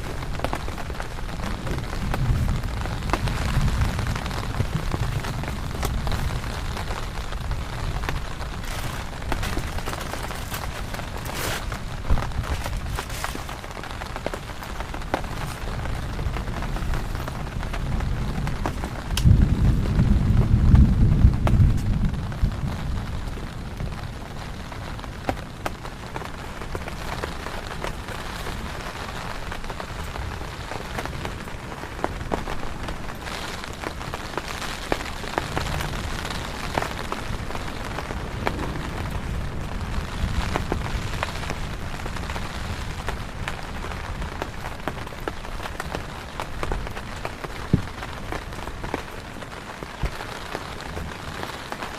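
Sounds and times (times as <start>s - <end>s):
low rumble of thunder: 0.0s - 51.5s
heavy rain falling: 0.0s - 51.9s.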